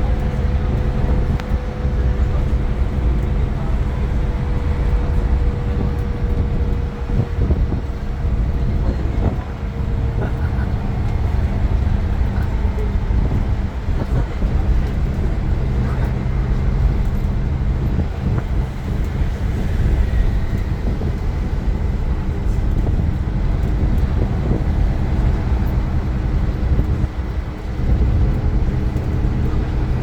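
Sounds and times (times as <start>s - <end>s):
bus diesel engine drone: 0.0s - 30.0s
road rumble: 0.0s - 30.0s.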